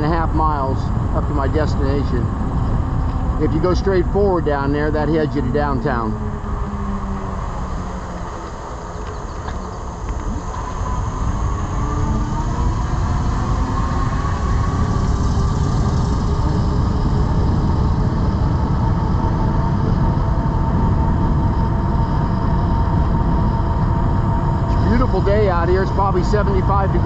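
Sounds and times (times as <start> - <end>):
electric drive whine: 0.0 - 27.0
wind rumbling on microphone: 0.0 - 27.0.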